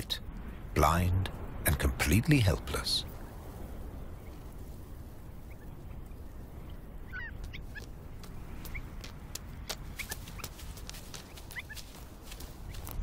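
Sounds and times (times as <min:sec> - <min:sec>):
birds chirping softly: 0:00.0 - 0:13.0.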